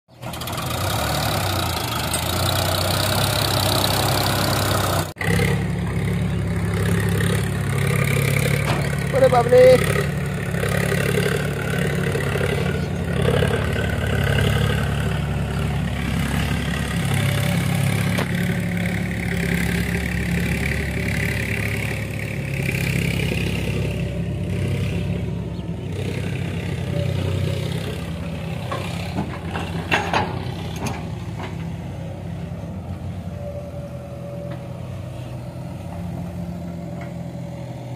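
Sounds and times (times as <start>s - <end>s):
hydraulic excavator working: 0.1s - 37.9s
tractor idling: 0.1s - 37.9s.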